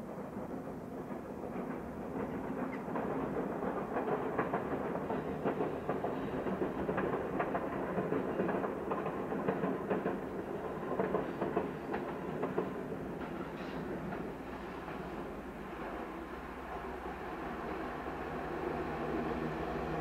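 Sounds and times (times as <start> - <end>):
train rumble: 0.0 - 20.0
wheels clicking over rail joints: 0.1 - 17.0.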